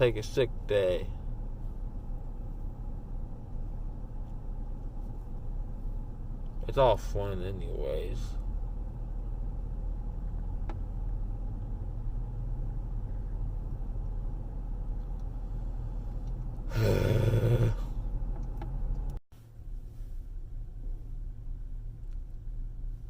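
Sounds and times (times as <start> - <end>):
car cabin rumble while driving: 0.0 - 23.0.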